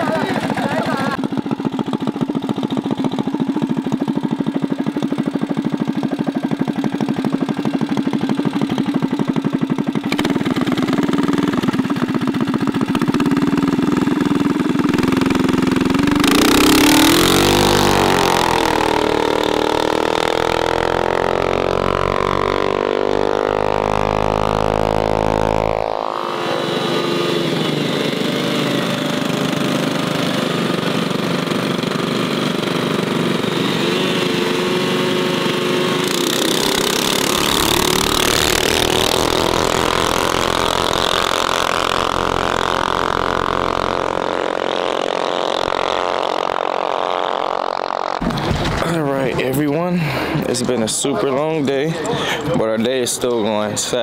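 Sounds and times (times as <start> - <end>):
mini bike engine revving: 0.0 - 54.0.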